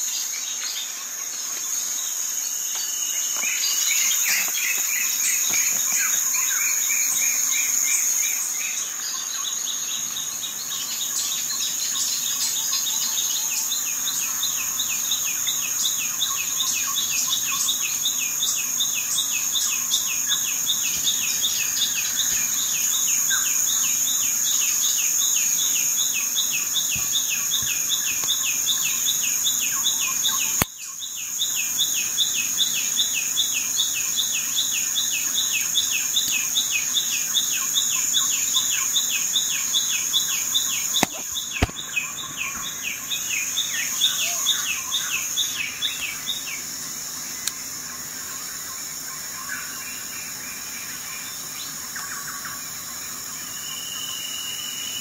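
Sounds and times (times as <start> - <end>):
insect trilling: 0.0 - 55.0.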